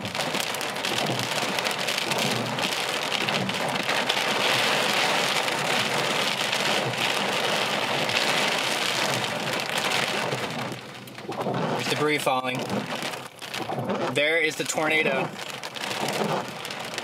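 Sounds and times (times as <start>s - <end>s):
raindrops pattering: 0.0s - 17.0s.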